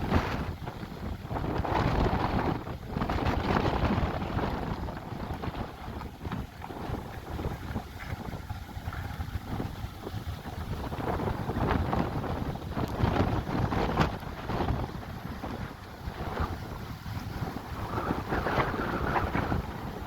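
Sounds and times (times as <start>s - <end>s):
gusty wind buffeting microphone: 0.0s - 20.0s.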